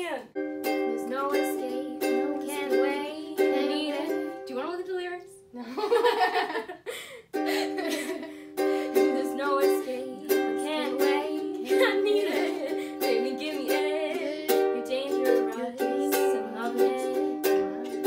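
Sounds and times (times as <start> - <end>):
girl singing: 0.0 - 5.4, 7.5 - 18.0
ukulele strumming chords: 0.3 - 5.3, 7.3 - 18.0.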